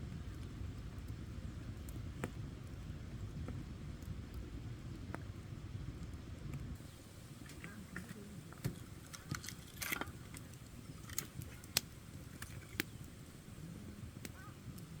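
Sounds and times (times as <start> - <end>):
campfire crackling: 0.0 - 15.0
fire pops and snaps: 0.0 - 15.0
low steady rumble: 0.0 - 15.0.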